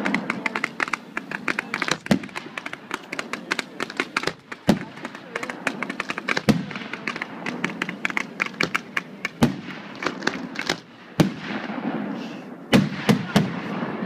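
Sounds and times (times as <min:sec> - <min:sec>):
fireworks bangs: 0:00.0 - 0:14.0
fireworks crackling pops: 0:00.0 - 0:14.0.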